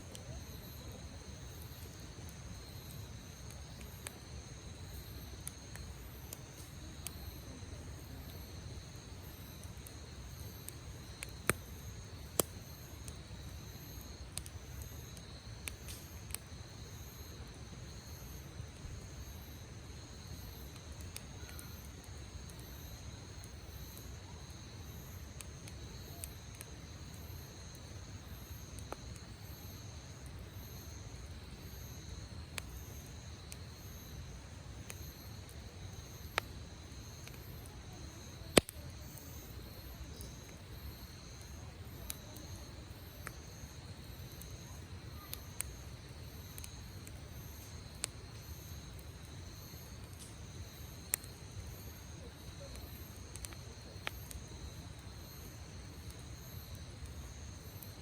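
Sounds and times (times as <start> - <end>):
campfire crackling and popping: 0.0 - 58.0
insects chirping: 0.0 - 58.0.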